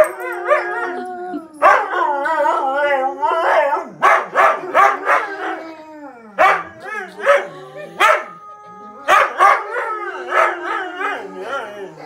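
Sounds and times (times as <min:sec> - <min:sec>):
dog howling: 0:00.0 - 0:12.0.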